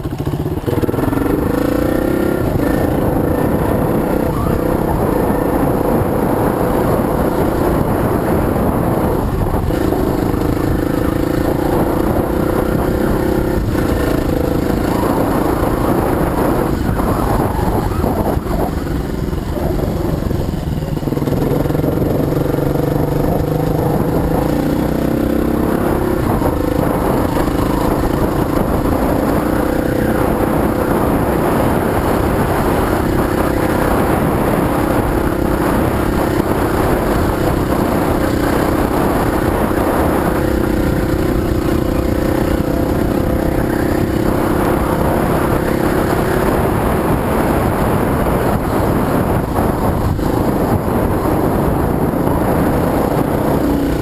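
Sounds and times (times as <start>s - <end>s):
dirt bike engine running: 0.0s - 54.0s
wind noise on microphone: 0.0s - 54.0s.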